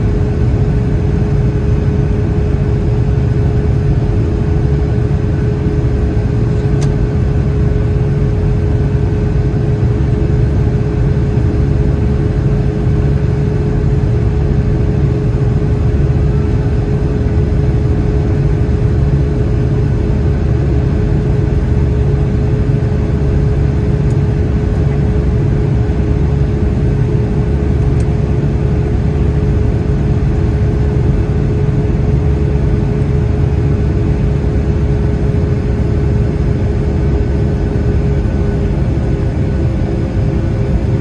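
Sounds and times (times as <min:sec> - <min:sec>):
airflow rumble: 0:00.0 - 0:41.0
jet engines at climb power: 0:00.0 - 0:41.0
steady droning hum: 0:00.0 - 0:41.0.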